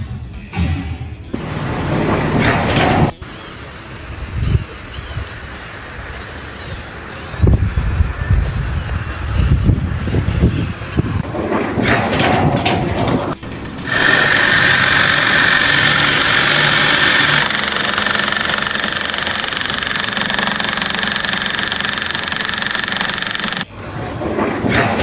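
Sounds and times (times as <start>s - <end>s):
machinery running with high whine: 1.3s - 8.8s, 10.8s - 24.5s.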